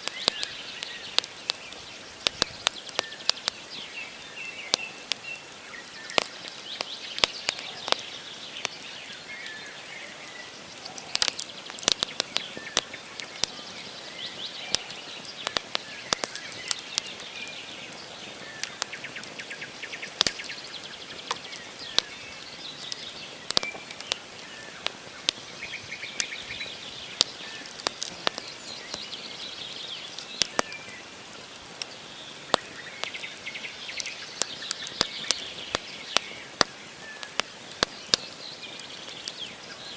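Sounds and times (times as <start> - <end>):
birds chirping: 0.0 - 39.9
campfire crackling and popping: 0.0 - 39.9.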